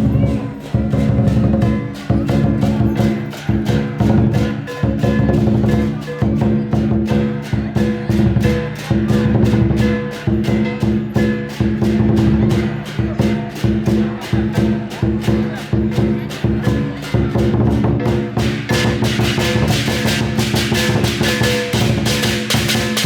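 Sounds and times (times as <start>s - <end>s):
cymbals crashing: 0.0s - 23.0s
large drum beating: 0.0s - 23.0s.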